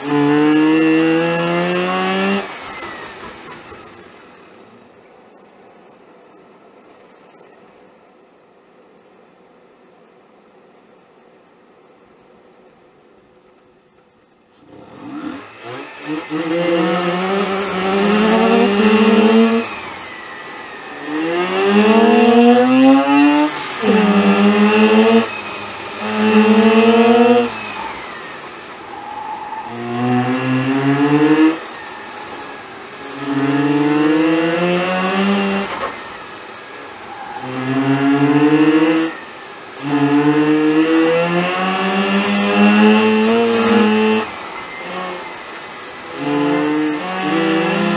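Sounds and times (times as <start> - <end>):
rotary engine accelerating hard: 0.0 - 5.8, 14.6 - 47.9.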